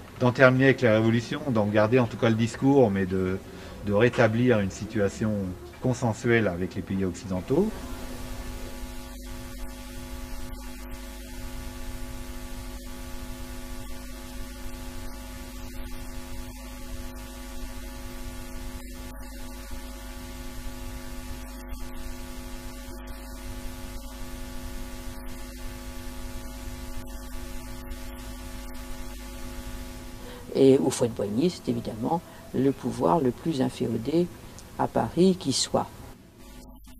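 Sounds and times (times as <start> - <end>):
background hiss: 0.0 - 36.9
electrical hum: 0.0 - 36.9.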